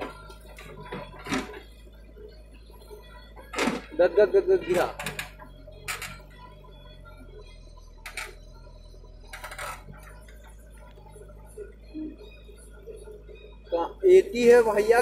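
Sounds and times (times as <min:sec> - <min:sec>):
distant diesel engine running: 0:00.0 - 0:15.0.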